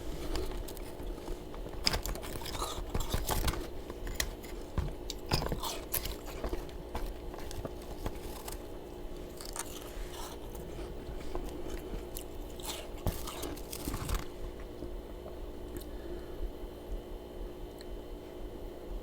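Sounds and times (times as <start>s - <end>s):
crunching frost being chewed: 0.0s - 15.9s
faint steady hum: 0.0s - 19.0s.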